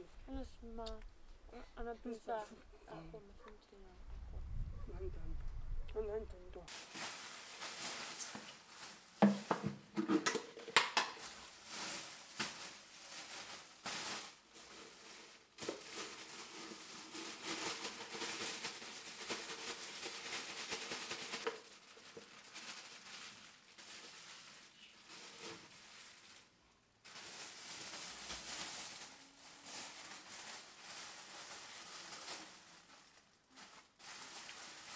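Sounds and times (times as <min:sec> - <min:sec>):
plastic bags rustling: 0:06.6 - 0:34.9.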